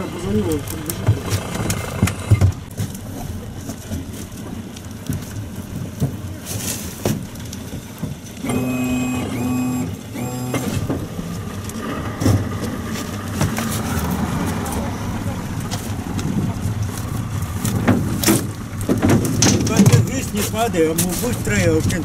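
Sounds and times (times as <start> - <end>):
outboard motors running: 0.0 - 22.0.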